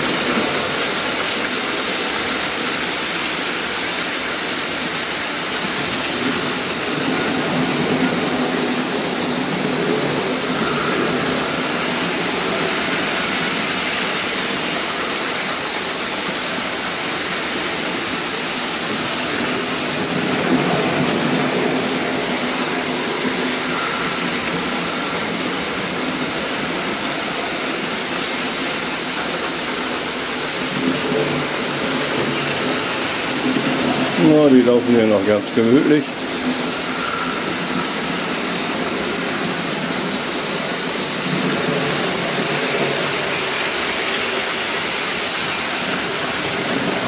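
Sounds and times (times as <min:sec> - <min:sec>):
wheels rolling on metal track: 0:00.0 - 0:47.0.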